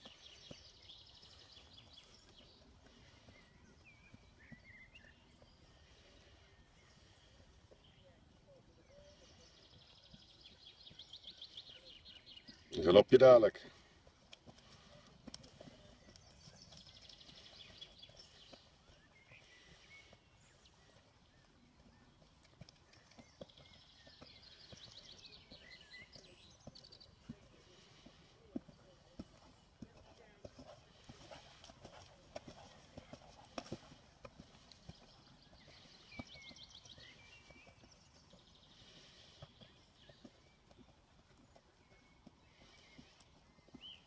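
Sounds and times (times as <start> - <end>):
horse hoofbeats trotting: 0.0 - 5.8, 13.5 - 44.0.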